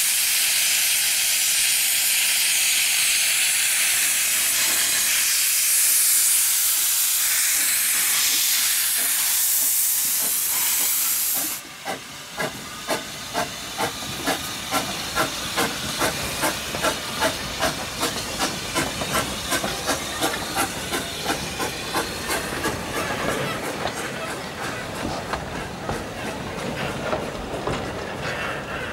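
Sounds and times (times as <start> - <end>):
steam hissing: 0.0 - 28.9
steam locomotive exhaust chuffs: 0.0 - 28.9.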